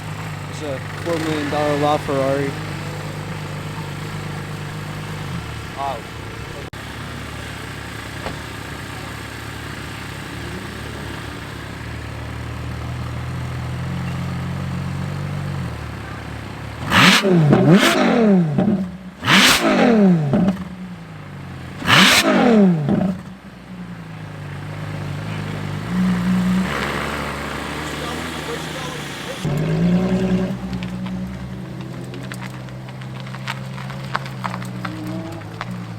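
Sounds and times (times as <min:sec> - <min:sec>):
engine revving sharply: 0:00.0 - 0:11.8, 0:15.5 - 0:20.8, 0:21.8 - 0:23.3, 0:24.6 - 0:35.9
sports car engine idling: 0:00.0 - 0:35.9.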